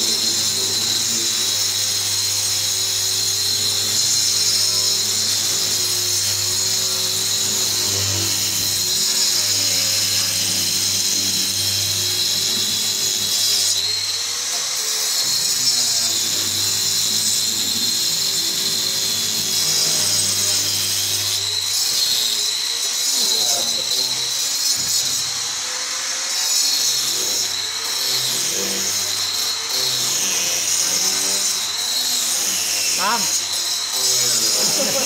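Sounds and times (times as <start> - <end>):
disc cutter grinding masonry: 0.0 - 35.0.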